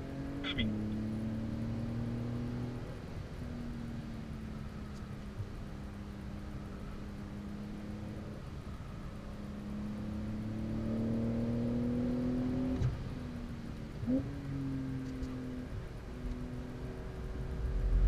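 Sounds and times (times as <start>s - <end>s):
car engine accelerating: 0.0s - 5.0s, 7.5s - 18.0s.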